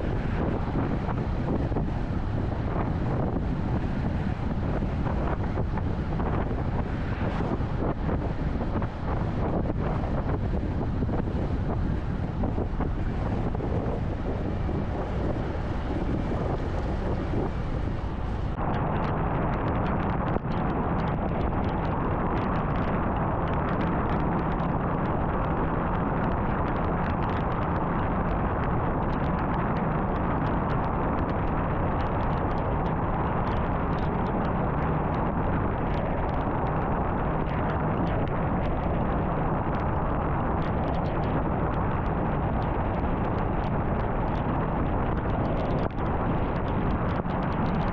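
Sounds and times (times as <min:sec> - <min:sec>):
road and wind noise: 0:00.0 - 0:47.9.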